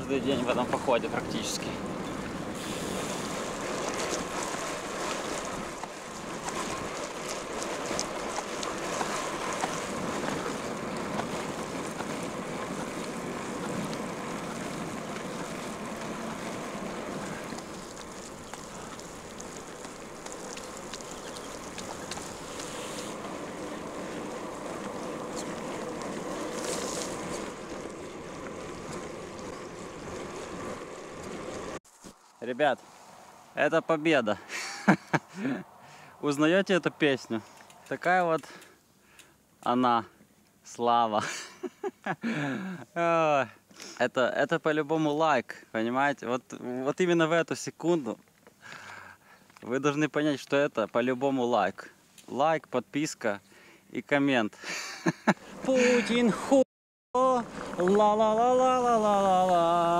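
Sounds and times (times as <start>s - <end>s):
bicycle road noise: 0.0s - 56.6s, 57.2s - 59.9s.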